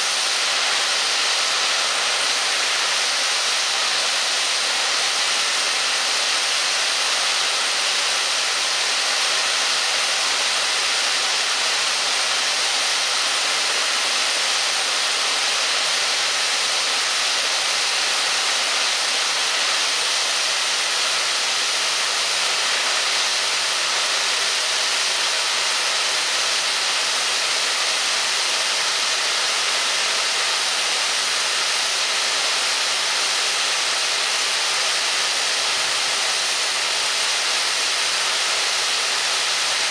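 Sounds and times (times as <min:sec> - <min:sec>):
steam hissing from locomotive: 0:00.0 - 0:39.9.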